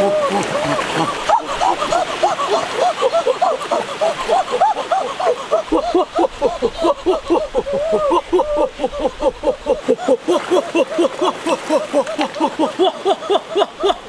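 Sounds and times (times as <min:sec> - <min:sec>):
boys yelping: 0:00.0 - 0:14.0.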